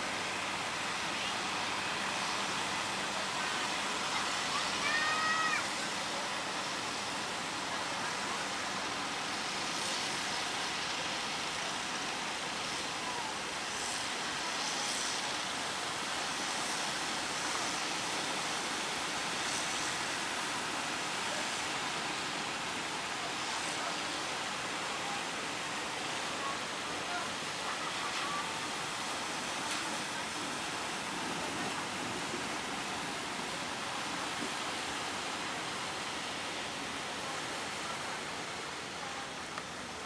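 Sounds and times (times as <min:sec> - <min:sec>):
heavy surf roaring: 0:00.0 - 0:40.0
wind: 0:00.0 - 0:40.0.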